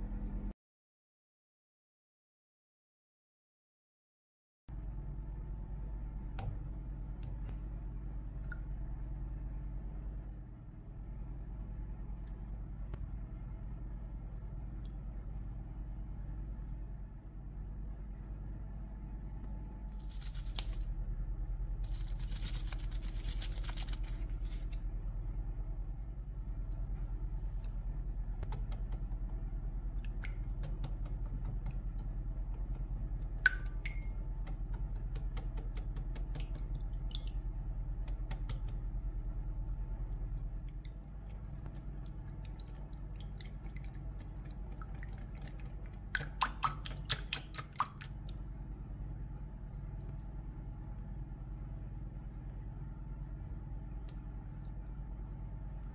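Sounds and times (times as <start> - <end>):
steady low hum: 0.0 - 0.5, 4.7 - 55.9.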